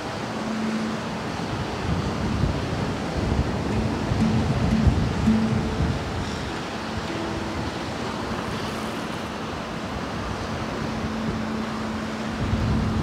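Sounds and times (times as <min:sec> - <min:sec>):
faint handpan notes: 0:00.0 - 0:13.0
sea surf: 0:00.0 - 0:13.0
wind: 0:00.0 - 0:13.0.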